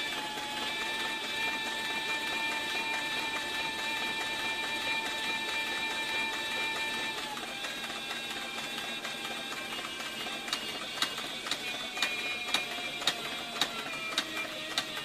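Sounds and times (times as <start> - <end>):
sewing machine motor whine: 0.0 - 15.0
sewing machine needle clatter: 0.0 - 15.0.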